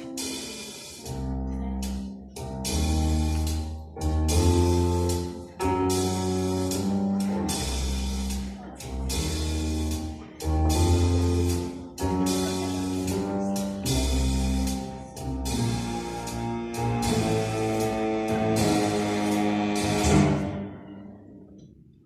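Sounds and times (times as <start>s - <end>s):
drums with steady beat: 0.0s - 20.8s
bass notes: 0.0s - 21.6s.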